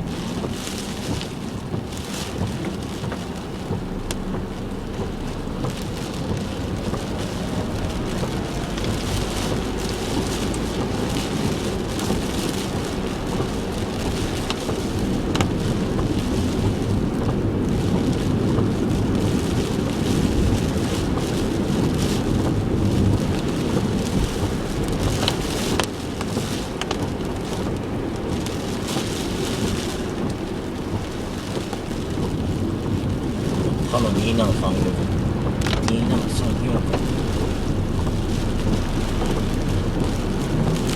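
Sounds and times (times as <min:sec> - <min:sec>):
car rumbling on wet road: 0:00.0 - 0:40.9
heavy rain on car: 0:00.0 - 0:40.9
raindrop ticks: 0:00.0 - 0:40.9.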